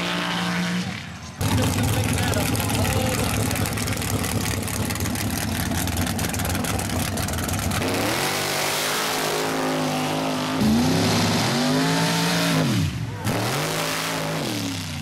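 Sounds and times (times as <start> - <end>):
truck engine rumbling and revving: 0.0 - 15.0.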